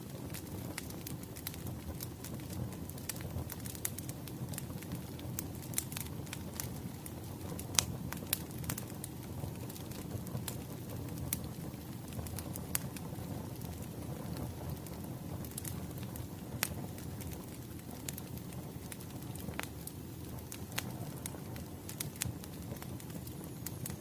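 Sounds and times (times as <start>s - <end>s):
low fire rumble: 0.0s - 24.0s
wood fire popping and snapping: 0.0s - 24.0s.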